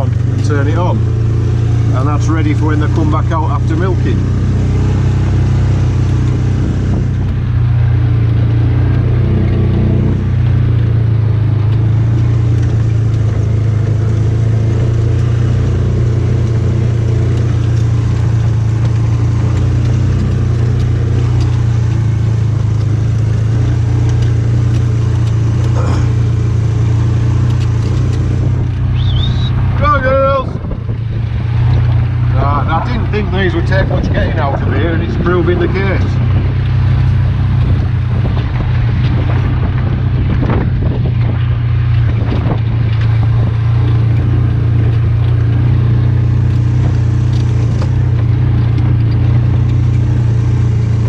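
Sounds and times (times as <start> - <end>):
utility vehicle engine droning: 0.0 - 51.0.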